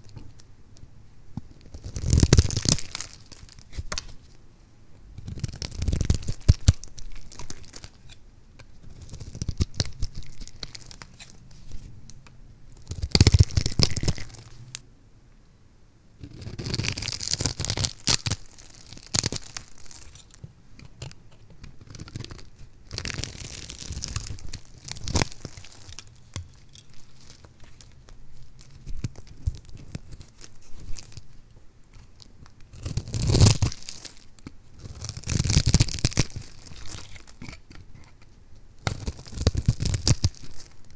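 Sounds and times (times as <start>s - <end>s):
soap cubes crackling and crunching: 1.7s - 4.2s, 5.2s - 11.4s, 12.8s - 14.8s, 16.3s - 31.4s, 32.0s - 40.9s.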